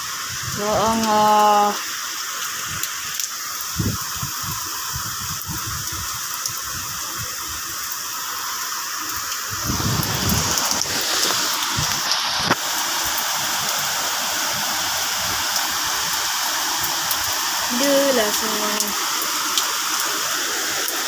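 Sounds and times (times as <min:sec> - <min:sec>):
heavy rain falling: 0:00.0 - 0:21.0
wind: 0:00.0 - 0:21.0.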